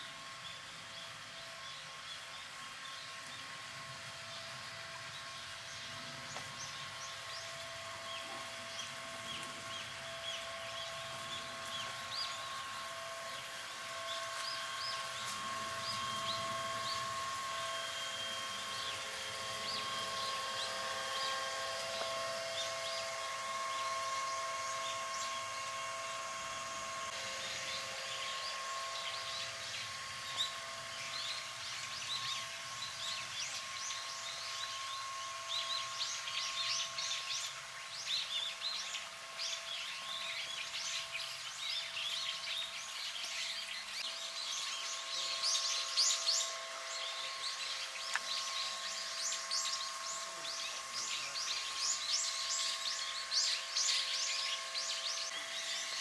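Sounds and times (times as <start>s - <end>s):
small birds chirping: 4.2s - 56.0s.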